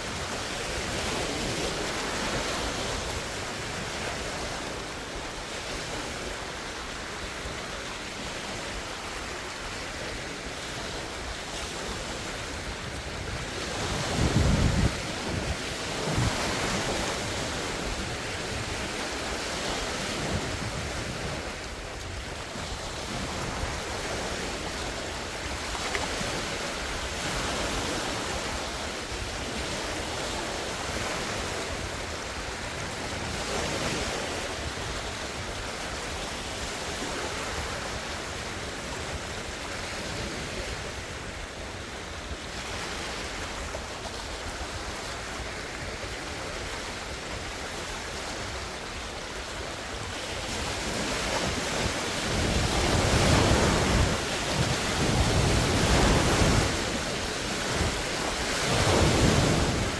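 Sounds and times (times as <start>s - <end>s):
lake waves washing: 0.0s - 59.9s
wind buffeting microphone: 5.6s - 59.9s.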